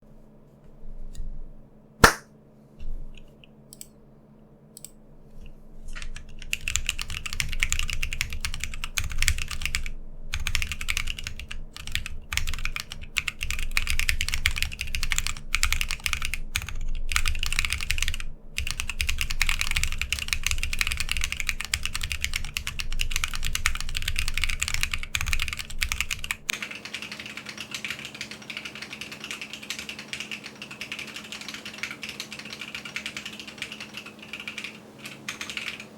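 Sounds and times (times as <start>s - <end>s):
mechanical keyboard typing: 6.0s - 35.9s.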